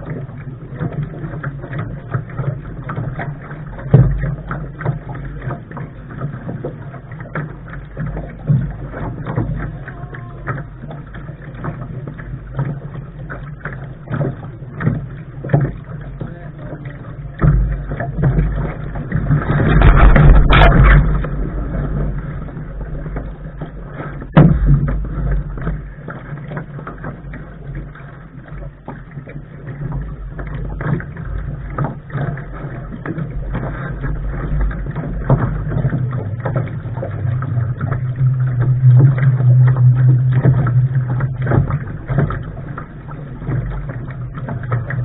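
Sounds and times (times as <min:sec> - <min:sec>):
water splashing against hull: 0:00.0 - 0:45.0
wind rumble on microphone: 0:00.0 - 0:45.0.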